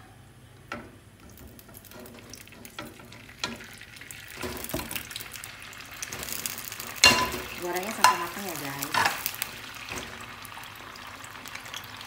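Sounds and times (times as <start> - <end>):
tofu sizzling in hot oil: 1.3 - 12.0.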